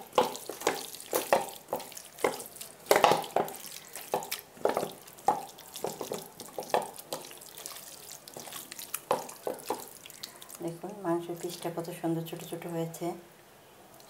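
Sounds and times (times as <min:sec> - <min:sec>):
wet squelches of hand mixing: 0:00.0 - 0:12.6.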